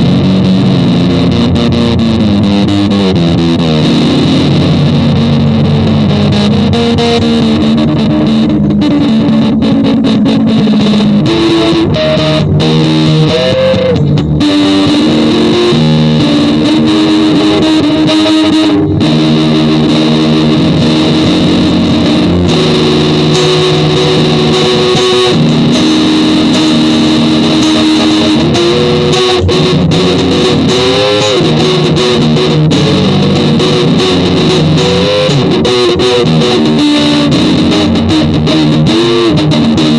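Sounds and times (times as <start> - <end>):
bass: 0.0 - 39.9
distorted electric guitar: 0.0 - 39.9.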